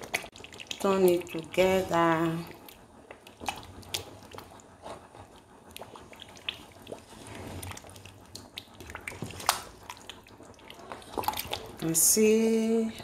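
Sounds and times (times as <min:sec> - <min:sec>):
wet squelching of stew: 0:00.0 - 0:12.2.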